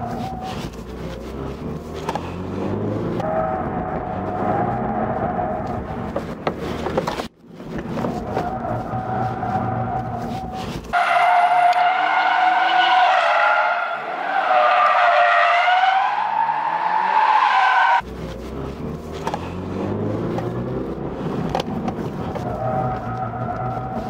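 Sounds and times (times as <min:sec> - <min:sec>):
car engine revving: 0:00.0 - 0:07.0, 0:07.8 - 0:24.0.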